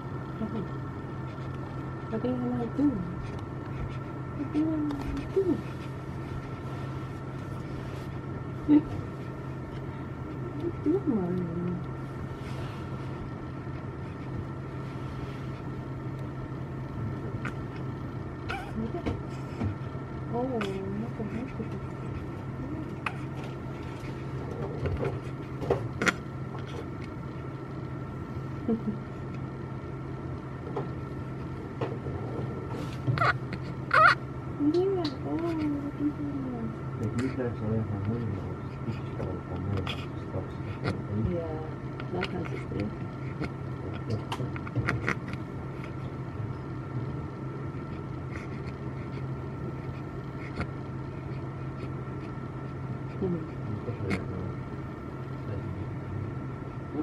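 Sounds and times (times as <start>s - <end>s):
medical equipment hum: 0.0s - 57.0s.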